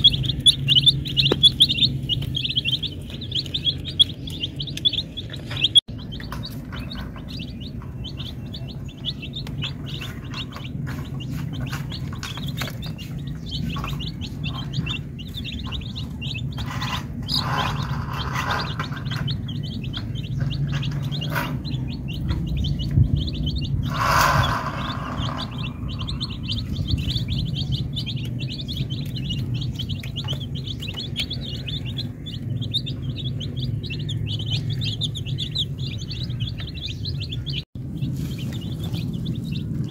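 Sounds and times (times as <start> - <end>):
chicks peeping: 0.0 - 39.9
noisy bursts: 0.0 - 39.9.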